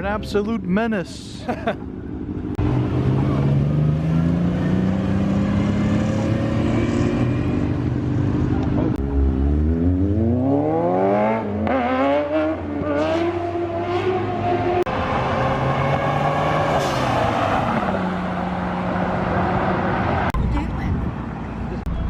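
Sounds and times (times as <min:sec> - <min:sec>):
car engine accelerating through gears: 0:02.5 - 0:20.3.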